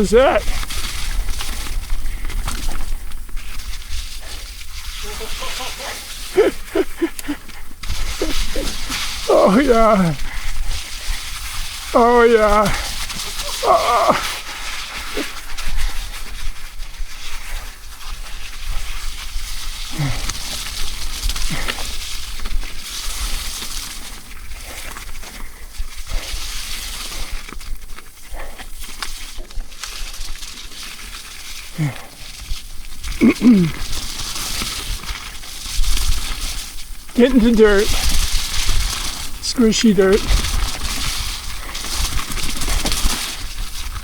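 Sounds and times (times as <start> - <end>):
bike tyre noise and rattle: 0.0 - 44.0.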